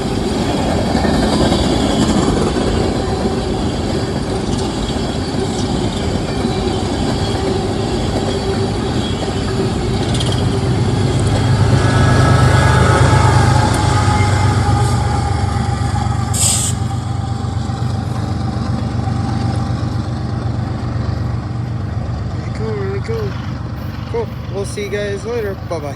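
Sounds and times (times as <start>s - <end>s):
freight train clattering rumble: 0.0s - 25.9s.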